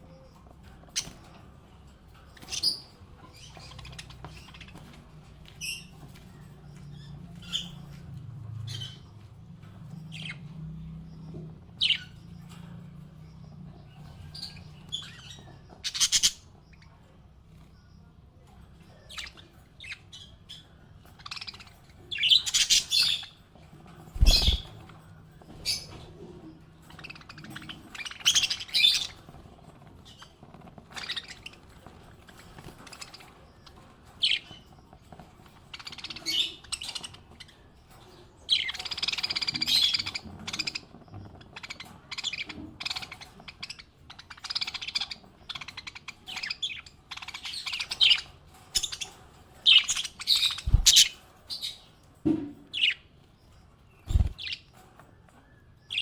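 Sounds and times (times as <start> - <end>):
parrots chirping and squawking: 0.0 - 56.0.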